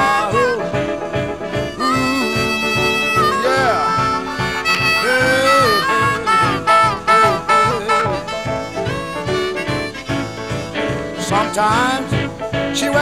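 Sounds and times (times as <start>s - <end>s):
instrumental music with steady beat: 0.0s - 13.0s.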